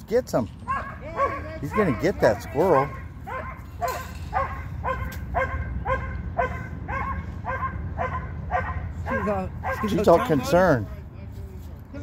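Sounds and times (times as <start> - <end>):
dog barking: 0.7 - 10.4.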